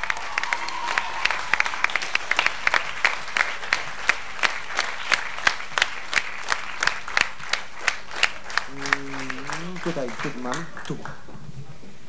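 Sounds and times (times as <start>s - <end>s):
audience applauding: 0.0s - 11.4s
rhythmic clapping in unison: 0.0s - 11.4s.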